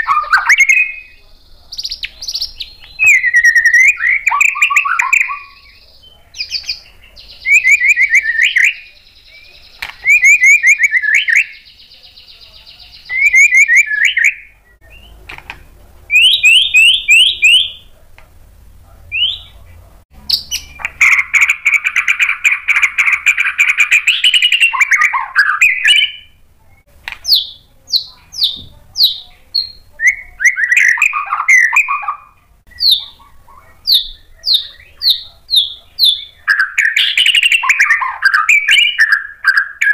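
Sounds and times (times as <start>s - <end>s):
songbird singing varied phrases: 0.0s - 15.3s, 16.1s - 18.0s, 19.1s - 39.9s.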